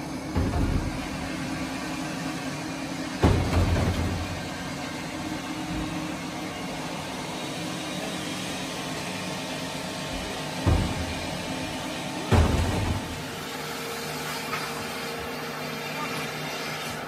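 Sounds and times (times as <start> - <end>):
steady machine drone: 0.0 - 17.0.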